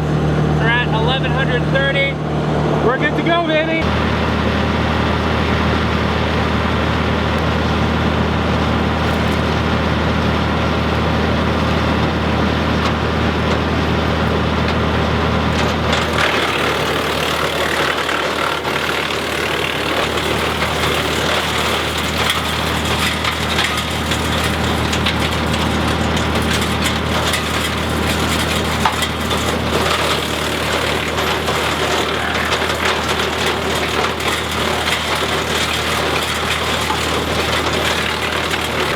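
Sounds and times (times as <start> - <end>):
tractor engine running: 0.0 - 38.9
wood chipper splintering branches: 0.0 - 38.9.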